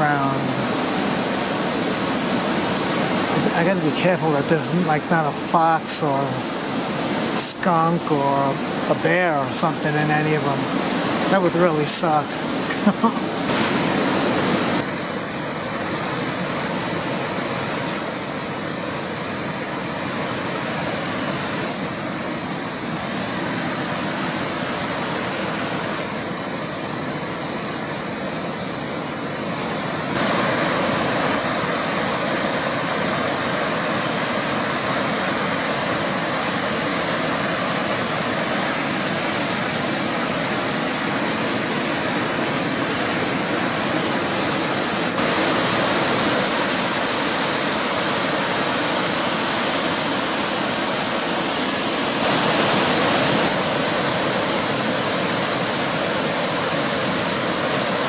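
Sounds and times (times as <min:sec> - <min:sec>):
waterfall cascading over rock: 0:00.0 - 0:58.0.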